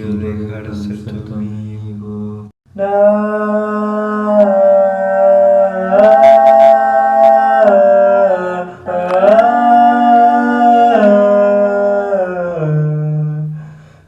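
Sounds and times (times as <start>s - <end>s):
a cappella vocal harmony: 0.0s - 14.0s.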